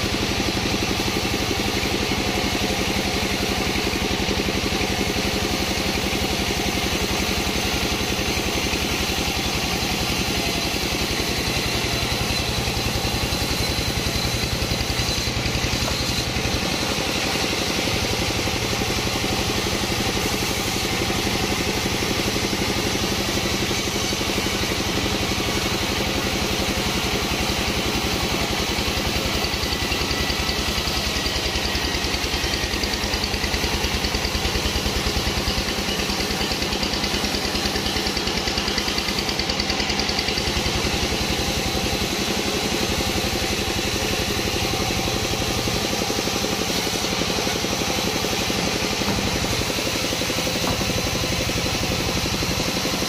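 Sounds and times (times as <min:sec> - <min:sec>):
sawmill engine pulsing: 0:00.0 - 0:53.0.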